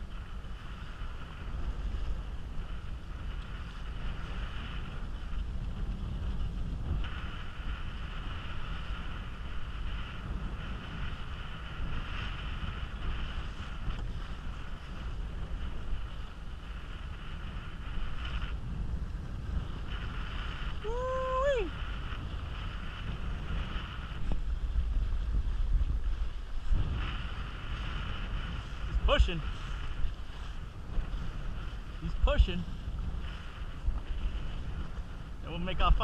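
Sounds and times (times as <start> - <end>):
low rumble: 0.0 - 36.0
water rushing along a boat: 0.0 - 36.0
wind buffeting microphone: 0.0 - 36.0.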